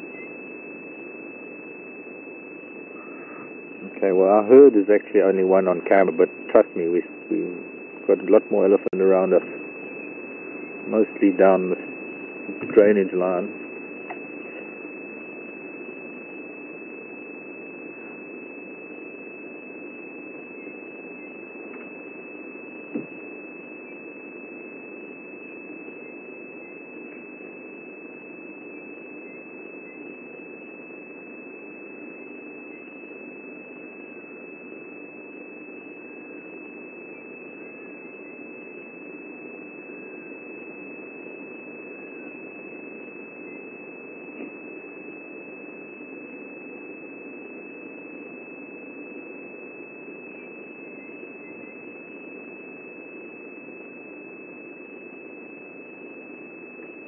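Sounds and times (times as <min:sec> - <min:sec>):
constant low hiss: 0:00.0 - 0:57.0
steady high-pitched whine: 0:00.0 - 0:57.0.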